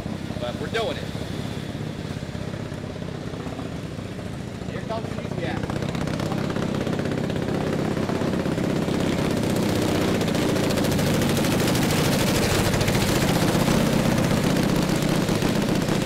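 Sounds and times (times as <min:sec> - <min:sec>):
motorcycle engine popping exhaust: 0:01.2 - 0:16.0.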